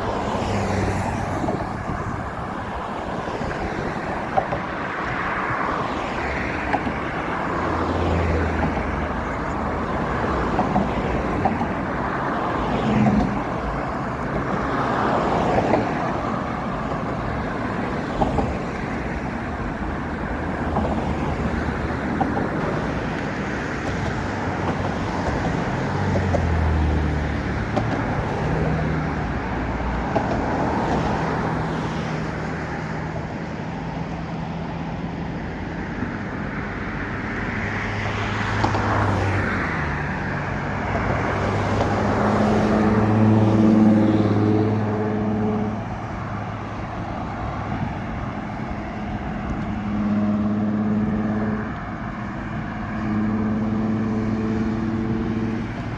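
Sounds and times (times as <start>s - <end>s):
cars driving by: 0.0s - 55.9s.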